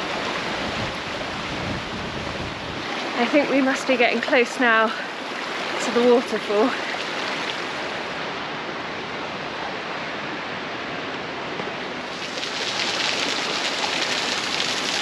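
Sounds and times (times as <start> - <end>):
flowing mountain water: 0.0 - 15.0.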